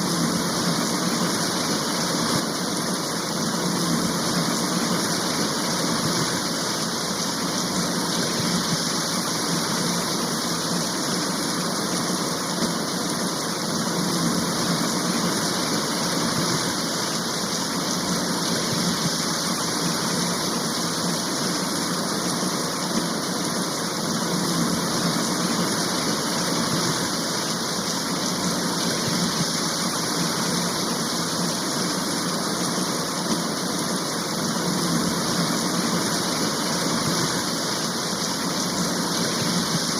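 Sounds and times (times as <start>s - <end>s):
steady rain downpour: 0.0s - 39.9s.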